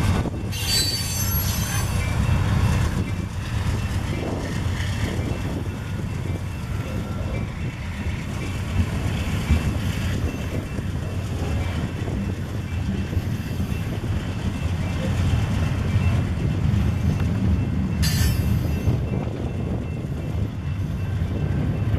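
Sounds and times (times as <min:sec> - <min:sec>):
diesel locomotive engine rumble: 0:00.0 - 0:21.9.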